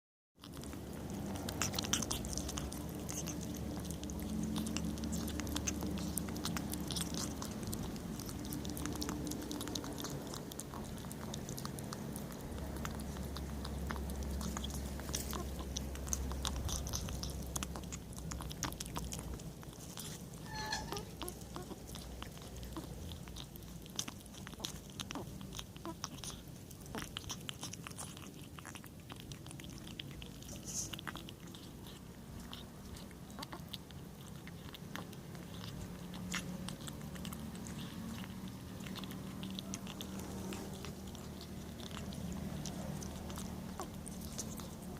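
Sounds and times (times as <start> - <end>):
kitten chewing and crunching food: 0.4 - 44.9
low steady hum: 0.4 - 44.9.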